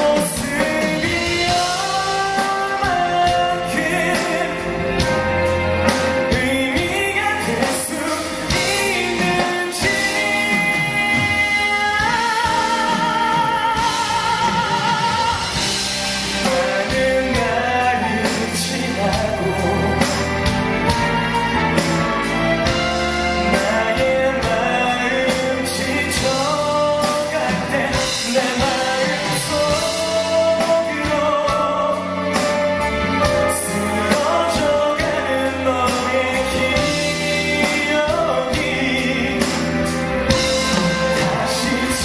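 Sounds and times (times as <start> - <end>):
instrumental backing music: 0.0 - 42.0
person singing: 0.0 - 42.0.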